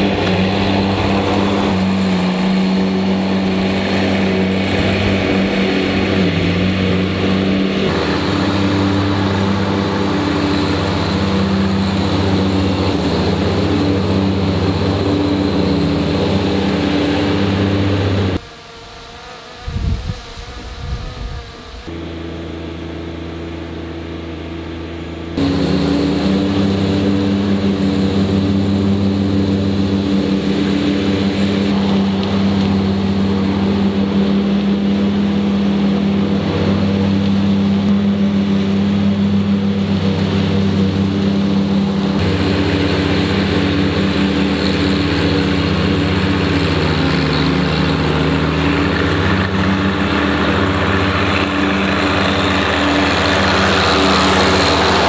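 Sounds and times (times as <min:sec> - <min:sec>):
mower deck and bagger running: 0:00.0 - 0:18.4, 0:21.9 - 0:55.0
tractor diesel engine running: 0:00.0 - 0:18.4, 0:21.9 - 0:55.0.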